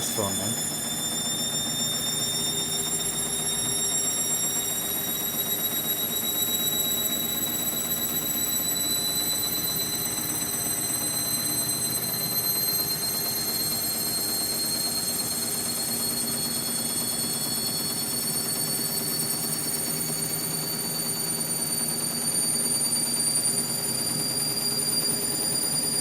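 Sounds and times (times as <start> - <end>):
washing machine motor whine: 0.0 - 26.0.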